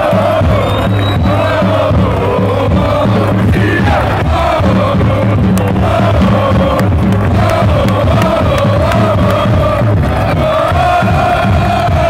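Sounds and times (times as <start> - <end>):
people clapping: 0.0 - 12.0
stadium crowd singing: 0.0 - 12.0.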